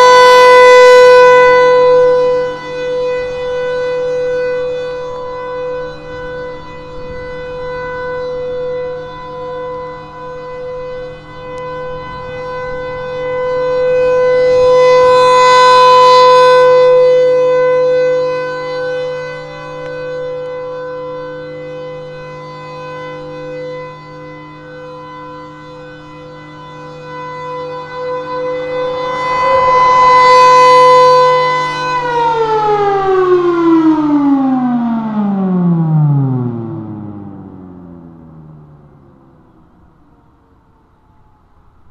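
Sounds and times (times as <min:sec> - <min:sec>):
mechanical siren steady tone: 0:00.0 - 0:41.9.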